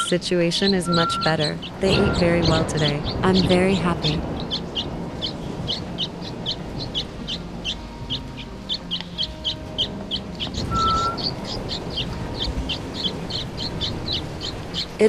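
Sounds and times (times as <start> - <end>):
chicks chirping: 0.0 - 15.0.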